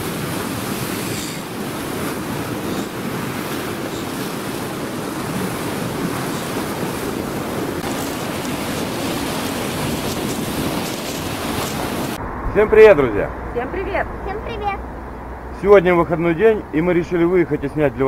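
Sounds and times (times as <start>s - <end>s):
wind buffeting microphone: 0.0s - 15.6s
sea surf washing ashore: 0.0s - 18.0s.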